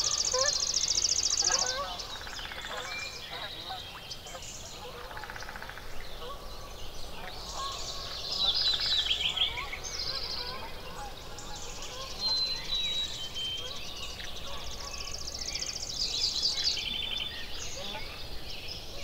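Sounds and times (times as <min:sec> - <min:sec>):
songbirds calling and singing: 0:00.0 - 0:19.0.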